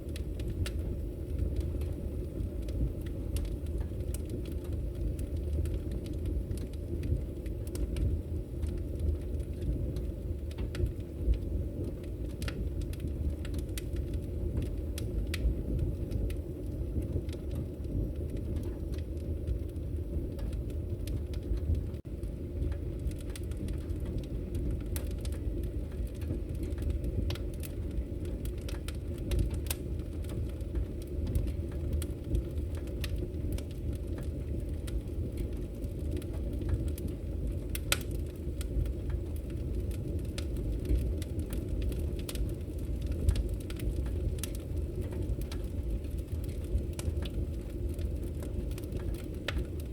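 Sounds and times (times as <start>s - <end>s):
fire crackling and popping: 0.0s - 49.9s
fire rumbling: 0.0s - 49.9s.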